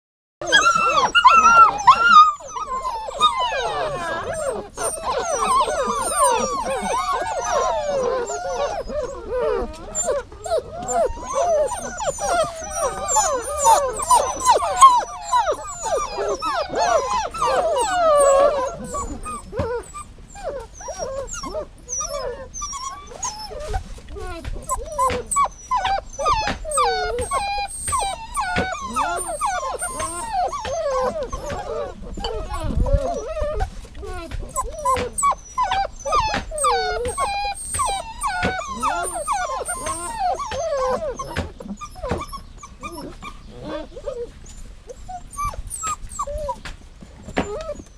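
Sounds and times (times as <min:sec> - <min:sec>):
dog whining and whimpering: 0:00.4 - 0:47.9.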